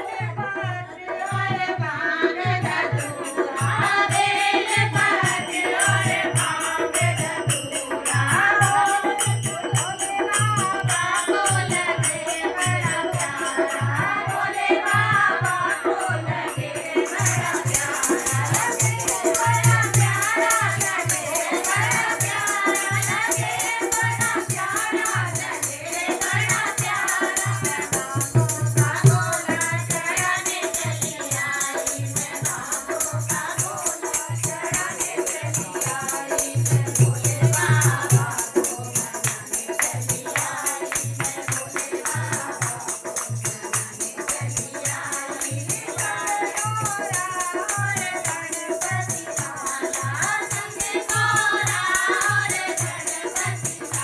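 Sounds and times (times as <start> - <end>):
voices singing devotional song: 0.0 - 54.0
rattling shaker percussion: 1.2 - 54.0
rhythmic beat: 2.7 - 54.0.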